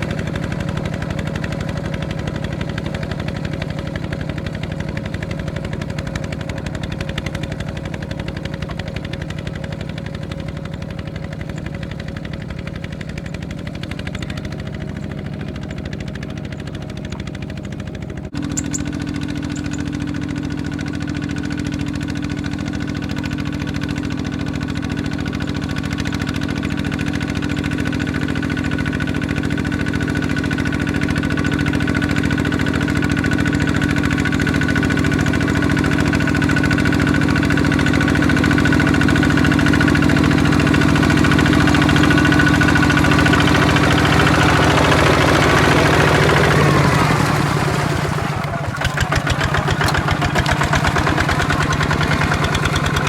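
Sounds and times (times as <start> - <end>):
single-cylinder diesel engine running: 0.0 - 53.0.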